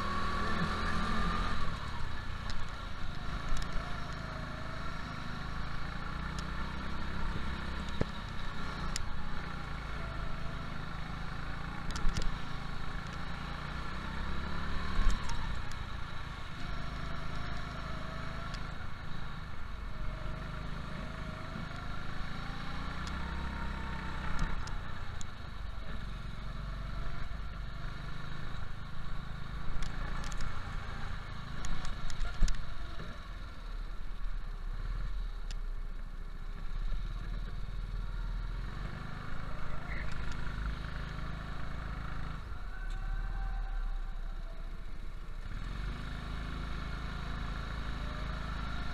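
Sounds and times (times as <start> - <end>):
go-kart engine revving: 0.0 - 34.0, 36.6 - 48.9.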